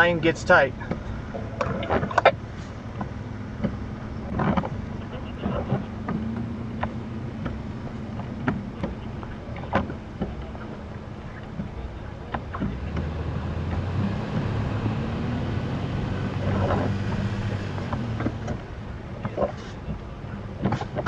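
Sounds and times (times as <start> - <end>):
vehicle engine under load: 0.0 - 21.0.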